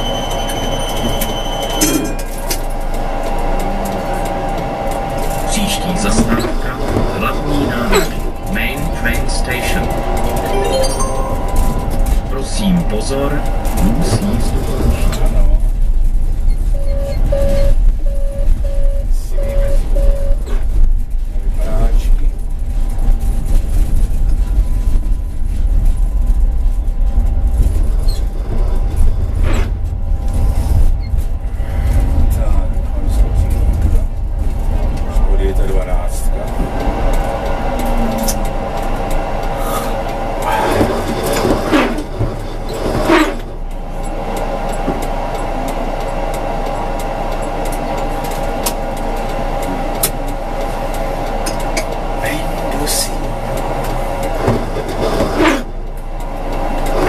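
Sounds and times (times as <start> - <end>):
tram rumbling: 0.0 - 57.0.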